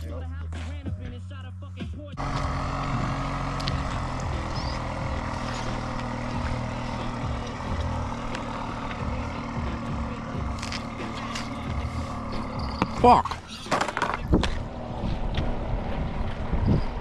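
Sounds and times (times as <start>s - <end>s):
motor droning: 2.2s - 17.0s.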